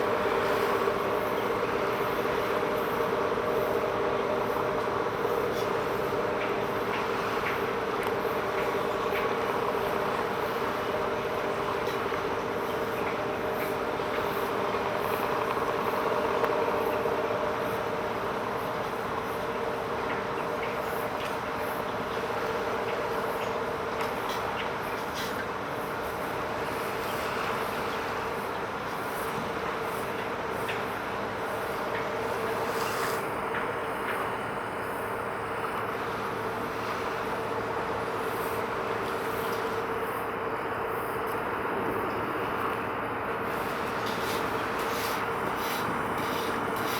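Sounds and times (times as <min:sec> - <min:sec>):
outdoor noisy hum: 0:00.0 - 0:46.9.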